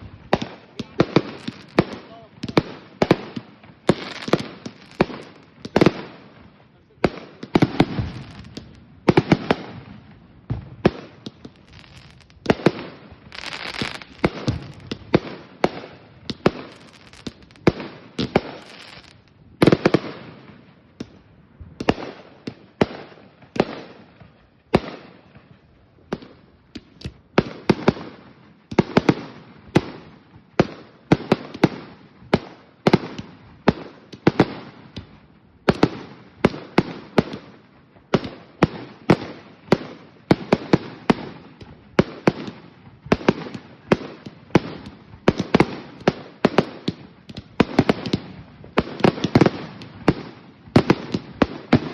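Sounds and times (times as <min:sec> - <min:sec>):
firework crackle: 0:00.0 - 0:51.9
fireworks booming: 0:00.0 - 0:51.9.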